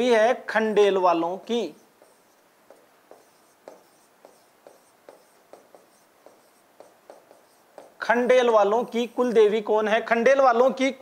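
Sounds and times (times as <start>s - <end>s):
marker writing on whiteboard: 0.0s - 9.6s.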